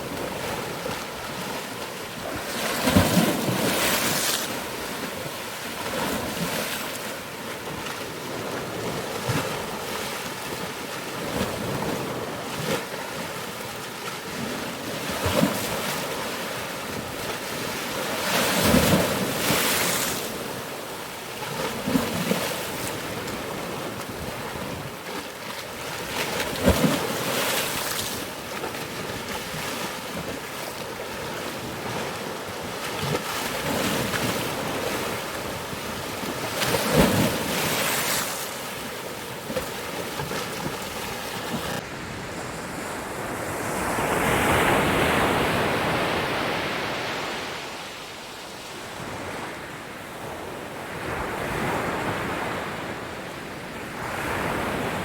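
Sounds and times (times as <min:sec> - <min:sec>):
ocean waves breaking: 0:00.0 - 0:53.1.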